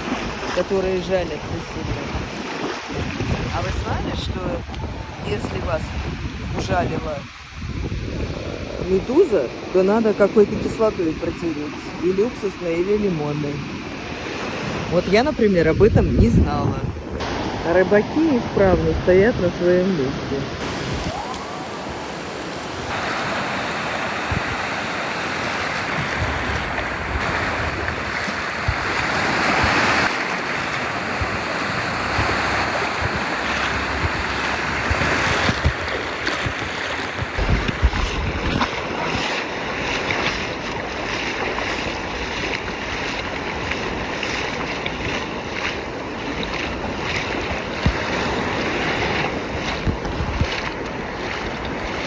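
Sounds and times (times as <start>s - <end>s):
waves breaking on a beach: 0.0s - 52.0s
wind buffeting microphone: 0.0s - 52.0s.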